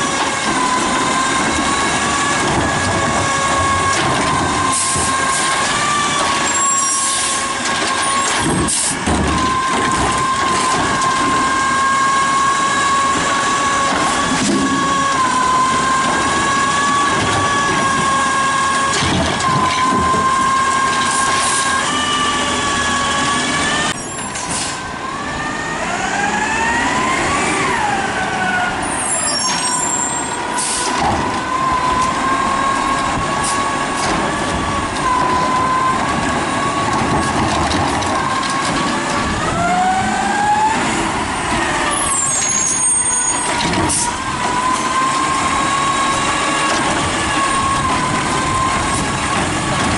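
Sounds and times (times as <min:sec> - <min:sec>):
garbage truck engine rumble: 0:00.0 - 0:49.9.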